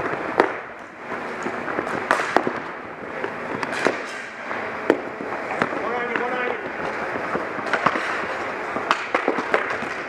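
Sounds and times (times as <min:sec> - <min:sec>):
hockey sticks cracking on ball: 0:00.0 - 0:10.0
rink background noise: 0:00.0 - 0:10.0.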